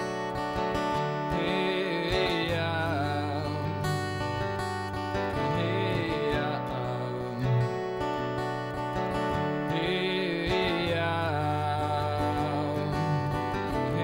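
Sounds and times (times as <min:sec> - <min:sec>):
acoustic guitar strumming: 0:00.0 - 0:14.0
man singing: 0:00.8 - 0:08.4, 0:09.1 - 0:14.0.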